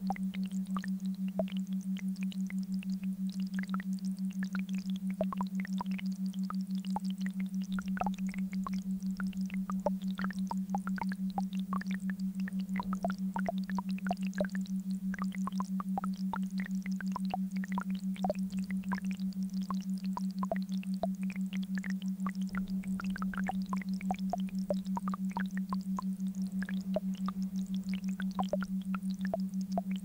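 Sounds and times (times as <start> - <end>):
pulsing low synthesised hum: 0.0 - 30.0.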